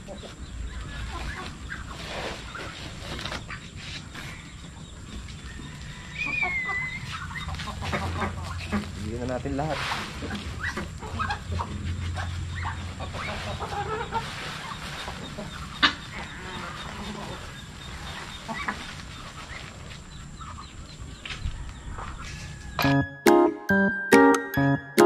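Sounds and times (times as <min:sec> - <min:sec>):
chickens and ducks clucking: 0:00.0 - 0:23.0.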